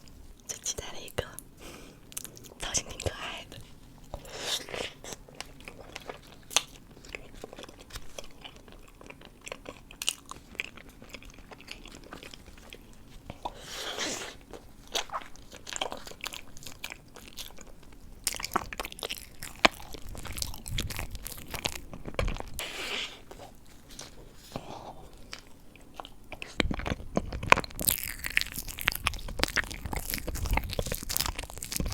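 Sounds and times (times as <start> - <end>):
crunchy chewing: 1.3 - 31.9.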